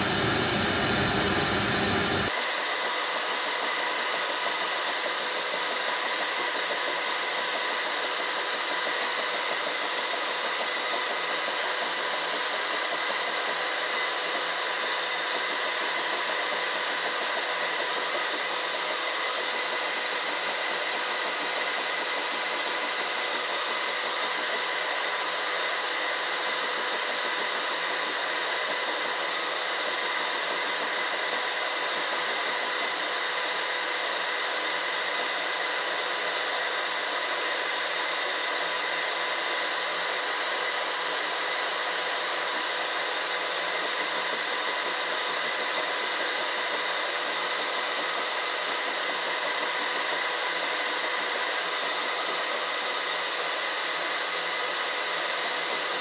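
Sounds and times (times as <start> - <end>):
milling machine spindle whining: 0.0 - 56.0.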